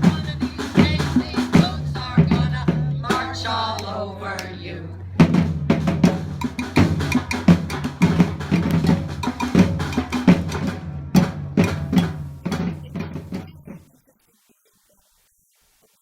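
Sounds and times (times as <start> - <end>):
drum ensemble playing: 0.0 - 14.0.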